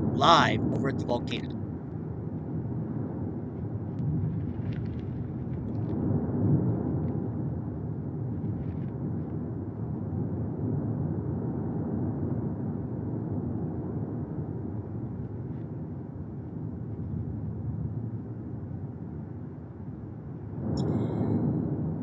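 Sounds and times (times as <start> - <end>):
volcano rumbling: 0.0 - 22.0.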